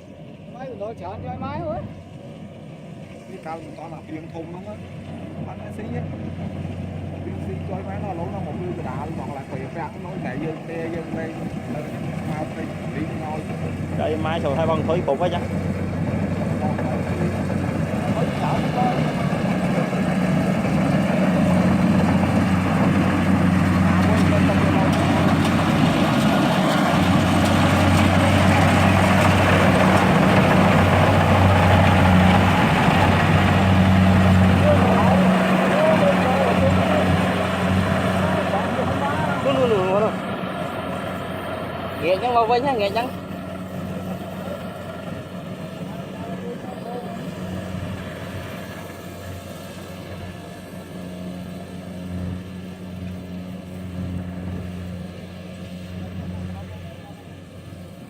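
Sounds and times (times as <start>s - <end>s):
farm machine engine humming: 0.0s - 58.0s.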